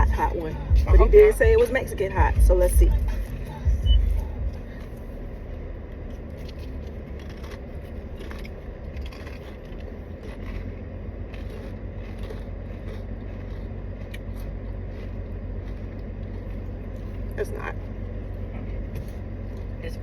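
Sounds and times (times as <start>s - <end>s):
low car road rumble: 0.0s - 20.0s
person chewing crunchy chips: 3.0s - 19.8s.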